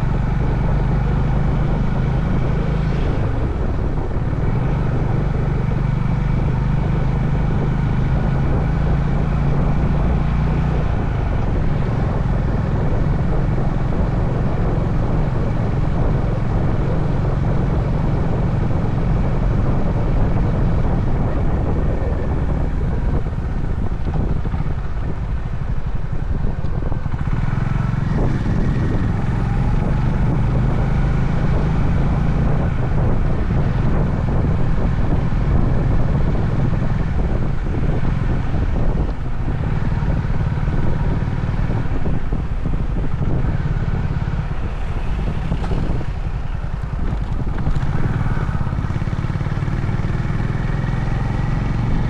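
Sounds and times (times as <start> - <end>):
motorcycle engine running: 0.0 - 52.0
road noise: 0.0 - 52.0
wind noise: 0.0 - 52.0.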